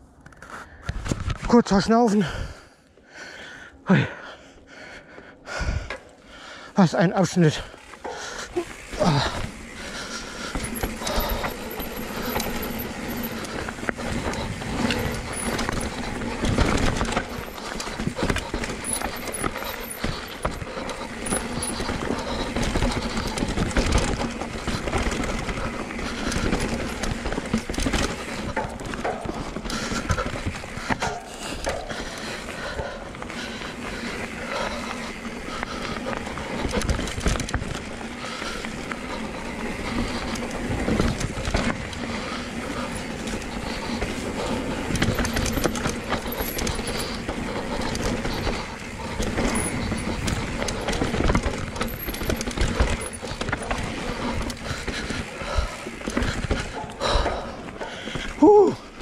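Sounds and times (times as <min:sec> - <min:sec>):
bike frame rattling: 0:05.5 - 0:59.0
tyres rolling over dirt: 0:06.9 - 0:59.0.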